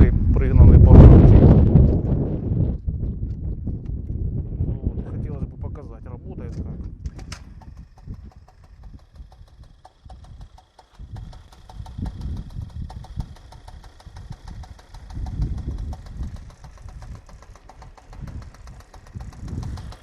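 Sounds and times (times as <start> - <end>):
two-stroke engine rumbling: 0.0 - 20.0.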